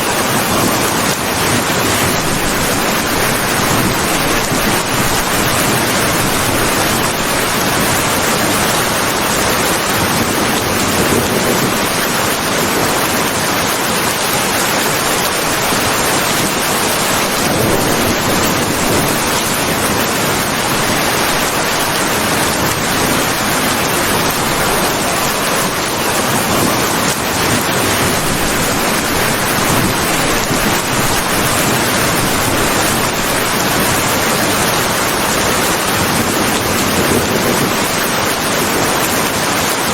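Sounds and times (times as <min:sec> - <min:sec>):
steady dense rain: 0:00.0 - 0:39.9.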